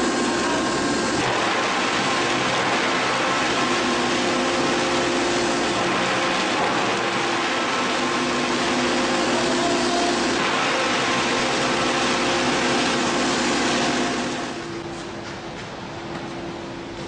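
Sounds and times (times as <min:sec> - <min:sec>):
foam shredder droning: 0:00.0 - 0:14.9
machine hum: 0:00.0 - 0:17.0.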